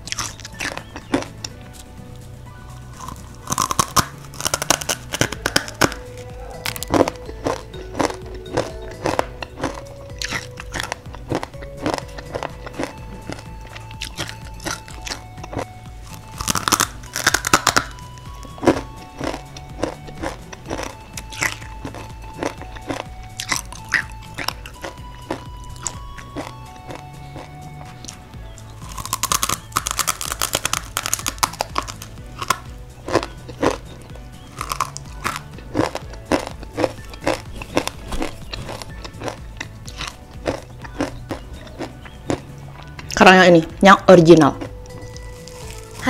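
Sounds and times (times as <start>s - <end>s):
crunchy snack sticks bitten and chewed: 0.0s - 1.8s, 3.0s - 28.2s, 28.8s - 43.2s, 44.5s - 46.0s.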